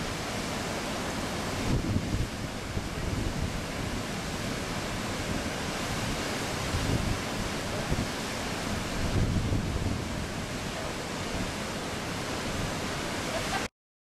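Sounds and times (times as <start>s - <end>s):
wind on microphone: 0.0s - 13.6s
waterfall rushing: 0.0s - 13.7s.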